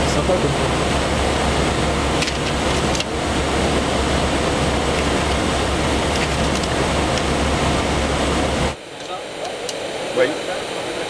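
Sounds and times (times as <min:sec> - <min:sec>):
aircraft cockpit roar: 0:00.0 - 0:11.0.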